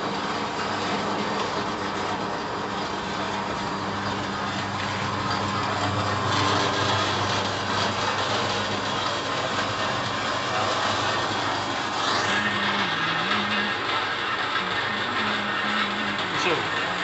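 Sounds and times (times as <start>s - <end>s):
dough sheeter motor running: 0.0s - 17.0s.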